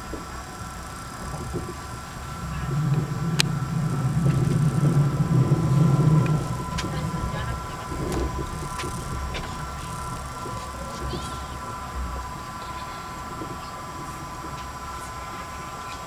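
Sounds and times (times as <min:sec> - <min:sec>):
constant high hum: 0:00.0 - 0:16.0
train wheels rumbling: 0:00.0 - 0:16.0.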